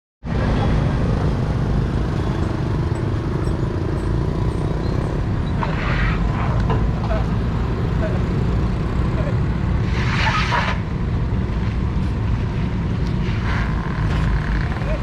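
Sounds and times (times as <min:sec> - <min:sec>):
ferry engine rumbling: 0:00.2 - 0:15.0.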